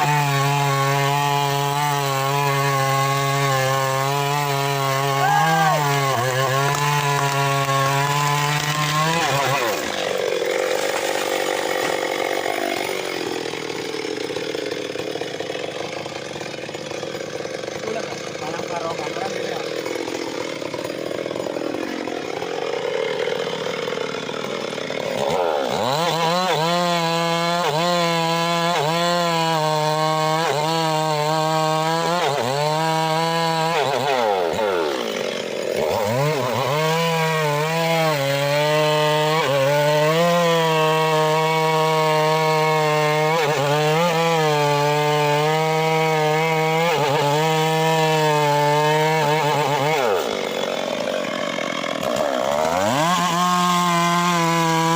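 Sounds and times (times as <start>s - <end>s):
chainsaw engine cutting wood: 0.0s - 54.9s.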